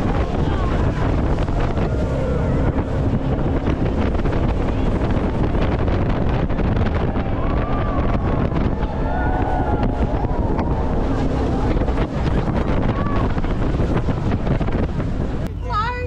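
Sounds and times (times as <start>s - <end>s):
jetboat engine: 0.0s - 16.0s
wind buffeting microphone: 0.0s - 16.0s.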